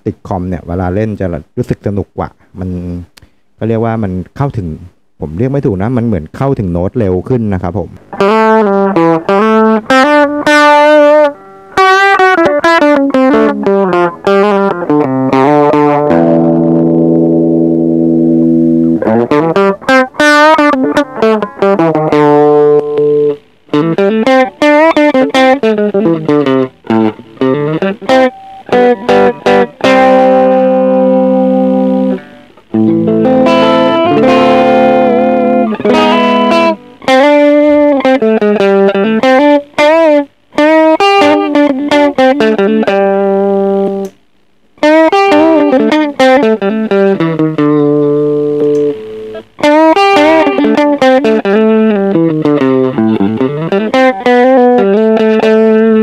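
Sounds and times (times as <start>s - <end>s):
clean electric guitar: 7.8s - 56.0s.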